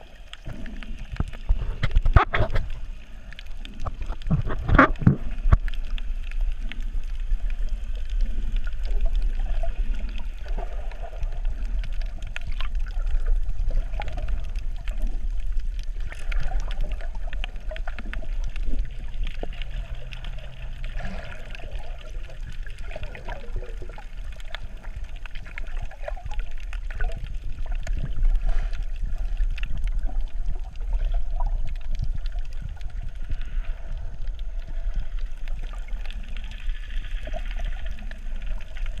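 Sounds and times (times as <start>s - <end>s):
steady low underwater rumble: 0.0s - 39.0s
water sloshing and bubbling: 0.0s - 39.0s.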